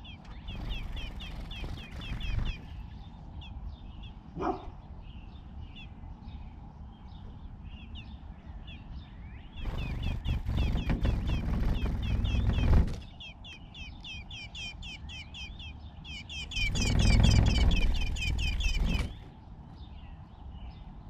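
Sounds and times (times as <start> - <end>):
sparrows chirping: 0.0 - 21.0.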